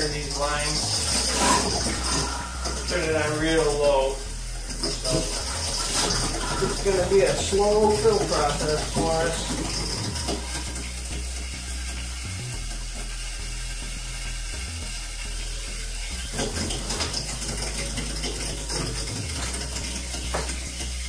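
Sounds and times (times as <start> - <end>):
toilet tank filling hissing: 0.0 - 21.0.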